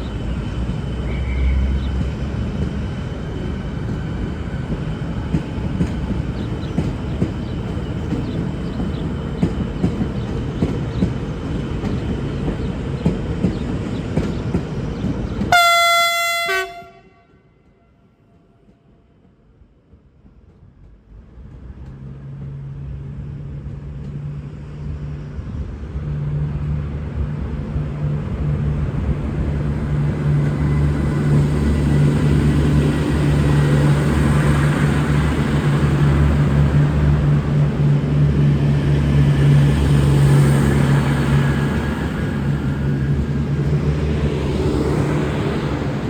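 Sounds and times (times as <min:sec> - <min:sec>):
diesel train engines running: 0:00.0 - 0:17.0, 0:19.3 - 0:46.0.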